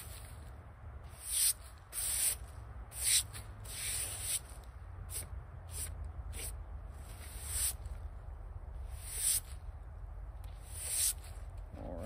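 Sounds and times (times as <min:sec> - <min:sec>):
broom sweeping wood: 0:00.0 - 0:08.1, 0:08.8 - 0:09.8, 0:10.6 - 0:11.5.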